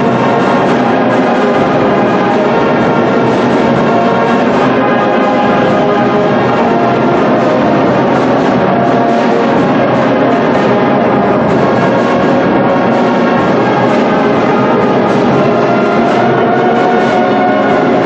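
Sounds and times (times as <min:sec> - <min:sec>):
loud steady music: 0:00.0 - 0:18.0.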